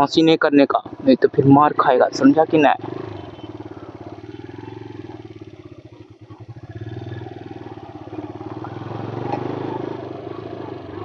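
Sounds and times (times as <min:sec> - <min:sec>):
motorcycle engine running: 0:00.8 - 0:11.0.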